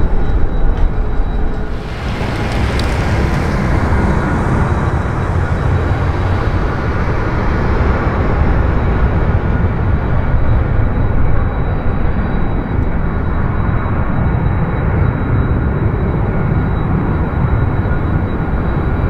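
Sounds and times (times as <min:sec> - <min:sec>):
faint high engine whine: 0:00.0 - 0:19.0
jet engines deep rumble: 0:00.0 - 0:19.0.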